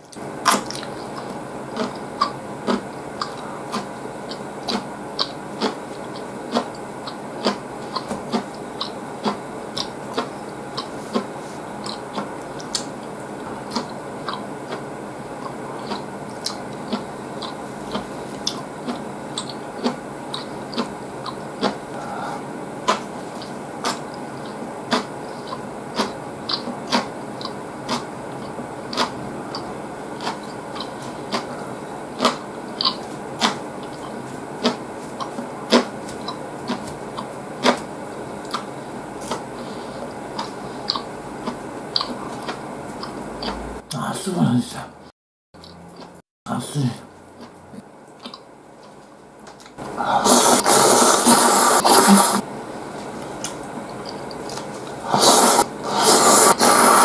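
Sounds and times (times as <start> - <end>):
person chewing food: 0.1 - 43.7, 45.6 - 46.2, 47.2 - 52.4, 53.0 - 57.0.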